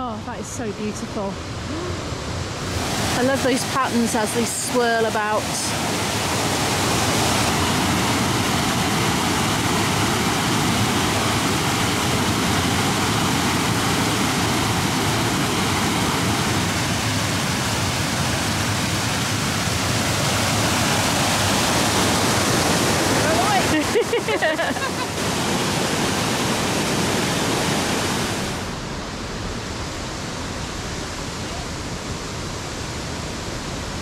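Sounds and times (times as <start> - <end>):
waterfall and river rushing: 0.1 - 34.0.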